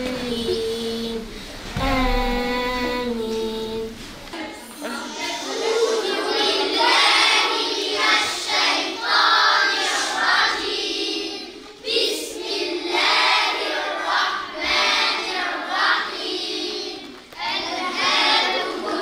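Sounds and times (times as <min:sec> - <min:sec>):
children chanting in unison: 0:00.0 - 0:19.0.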